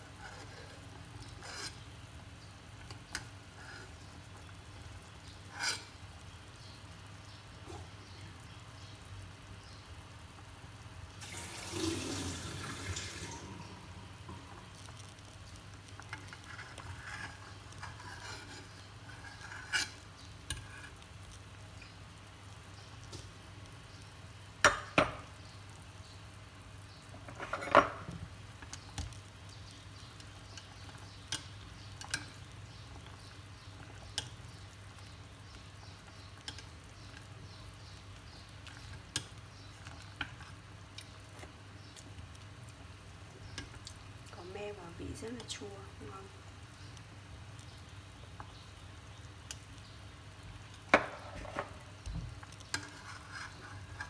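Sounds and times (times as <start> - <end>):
soup boiling in pot: 0.0 - 54.0.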